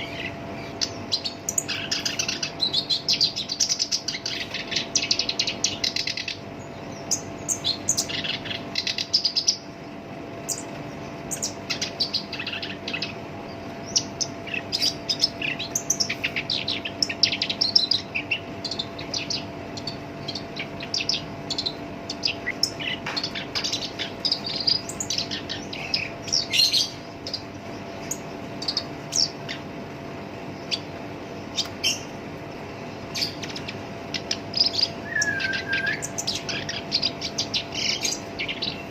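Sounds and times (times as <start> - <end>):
faint steady hum: 0.0 - 38.9
reed warbler singing: 0.0 - 38.9.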